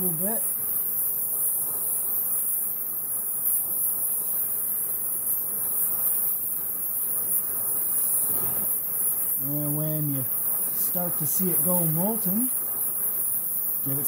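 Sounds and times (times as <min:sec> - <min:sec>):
cutting torch flame hissing: 0:00.0 - 0:14.0.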